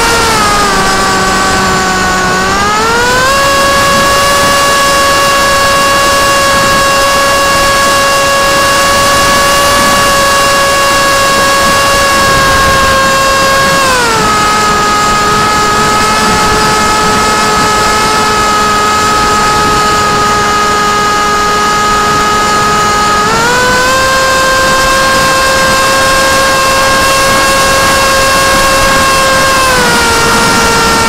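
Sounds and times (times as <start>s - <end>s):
electric motor whine: 0.0s - 31.0s
rushing wind noise: 0.0s - 31.0s.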